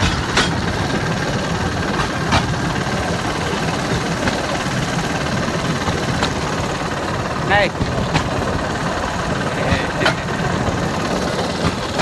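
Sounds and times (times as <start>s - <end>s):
rail vehicle engine drone: 0.0s - 12.0s
thin steady whine: 0.0s - 12.0s
wheels clacking on rail joints: 0.0s - 12.0s.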